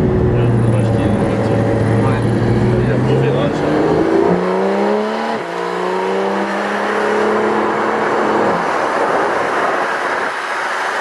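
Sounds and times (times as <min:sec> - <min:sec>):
car engine accelerating: 0:00.0 - 0:11.0
road and wind noise: 0:00.0 - 0:11.0.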